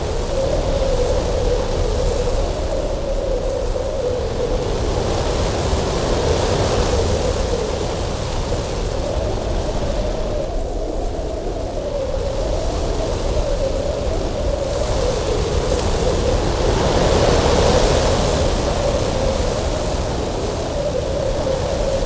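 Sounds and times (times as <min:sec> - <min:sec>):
strong wind with low whistle: 0:00.0 - 0:22.0.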